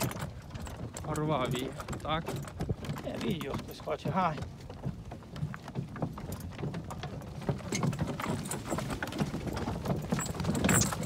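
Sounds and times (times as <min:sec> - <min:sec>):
cart and harness rattling: 0:00.0 - 0:11.0
horse hooves plodding on dirt: 0:00.0 - 0:11.0.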